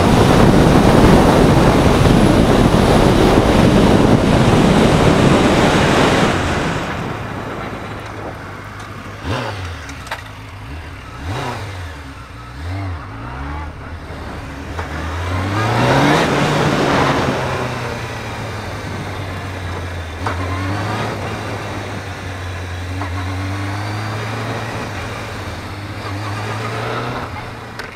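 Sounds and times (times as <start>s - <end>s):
wind rushing over microphone: 0.0s - 10.0s, 10.6s - 27.8s
motorcycle engine revving: 0.0s - 27.9s.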